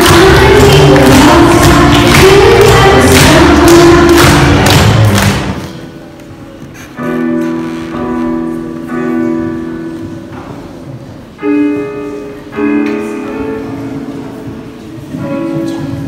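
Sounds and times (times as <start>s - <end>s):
electronic keyboard piano chords: 0.0s - 16.0s.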